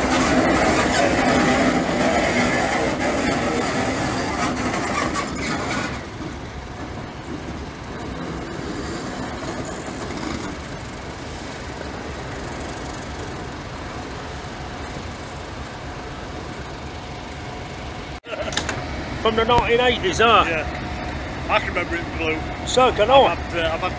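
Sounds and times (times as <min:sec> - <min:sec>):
diesel locomotive rumbling: 0:00.0 - 0:23.9.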